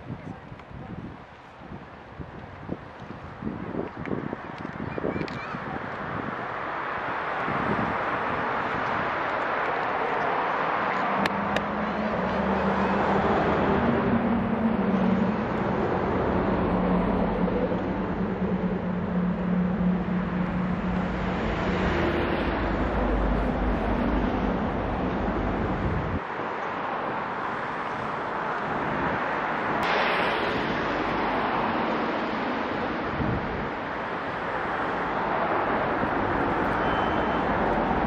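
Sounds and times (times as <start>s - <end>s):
vehicle traffic: 0.0s - 38.0s.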